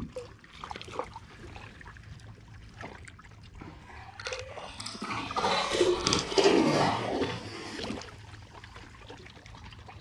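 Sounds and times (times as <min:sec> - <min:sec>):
water lapping at boat side: 0:00.0 - 0:10.0.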